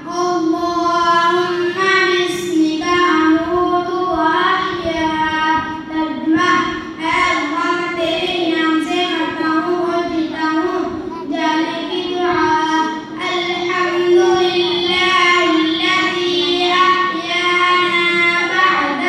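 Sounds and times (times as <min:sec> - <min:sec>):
boy chanting melodically: 0:00.0 - 0:19.0.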